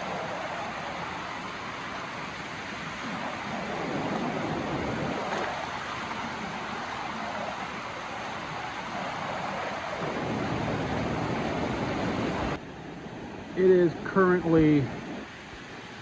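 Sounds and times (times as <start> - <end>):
river rushing over a wall: 0.0 - 16.0.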